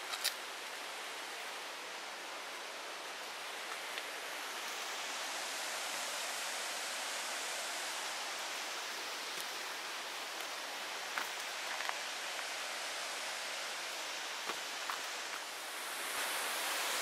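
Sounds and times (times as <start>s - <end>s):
stream and waterfall rushing: 0.0s - 17.0s.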